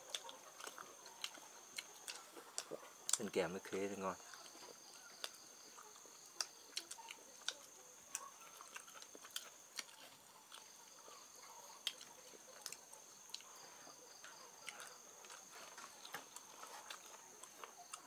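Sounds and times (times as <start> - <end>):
eating noises: 0.0 - 18.0.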